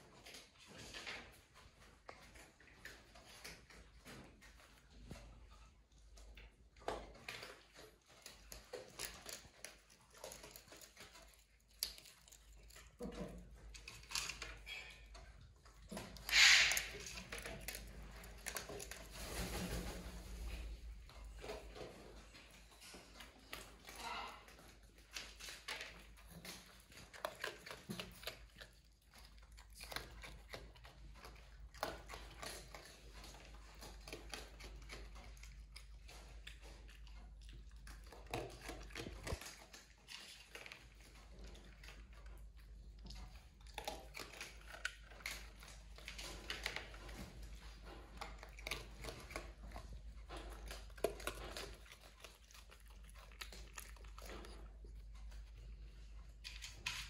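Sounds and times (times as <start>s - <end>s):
raccoon chewing food: 0.0s - 57.0s.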